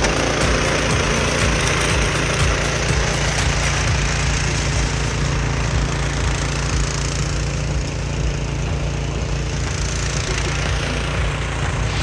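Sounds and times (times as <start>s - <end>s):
auger throwing snow: 0.0s - 12.0s
snowblower engine drone: 0.0s - 12.0s.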